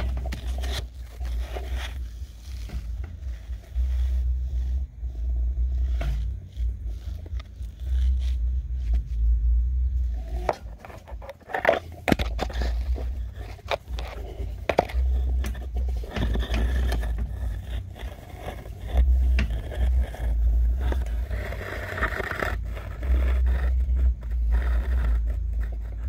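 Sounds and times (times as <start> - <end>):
camera scraping masonry walls: 0.0 - 26.0
deep rubbing rumble: 0.0 - 26.0.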